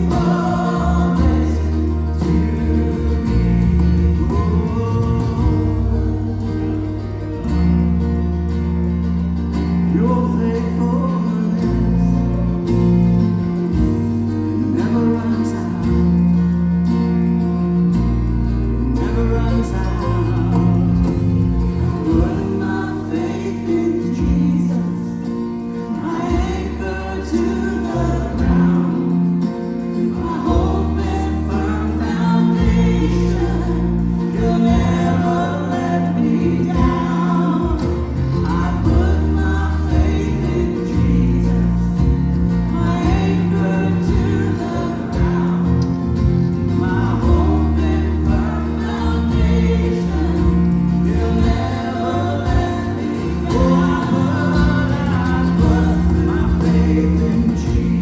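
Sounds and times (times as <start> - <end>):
choir singing: 0.0 - 7.2, 9.9 - 16.8, 18.7 - 58.0
band with sustained bass line: 0.0 - 58.0.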